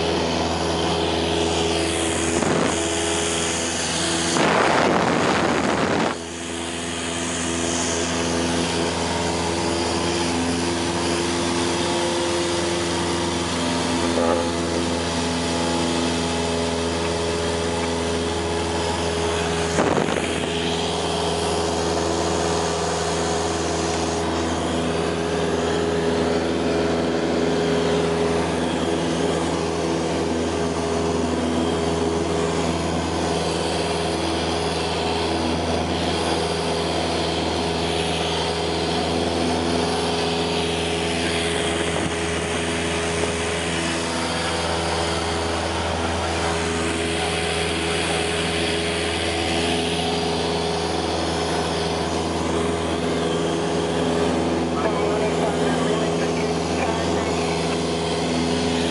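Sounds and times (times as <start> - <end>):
plane engine and propeller droning: 0.0 - 58.9.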